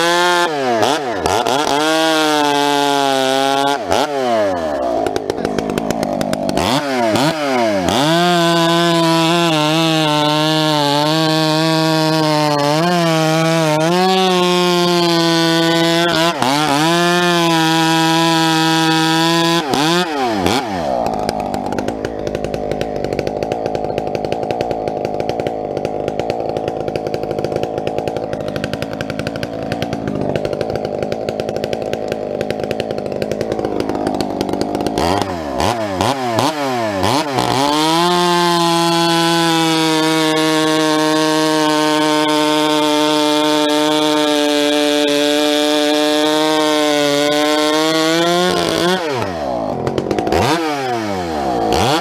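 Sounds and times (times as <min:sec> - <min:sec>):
chainsaw cutting a log: 0:00.0 - 0:52.0.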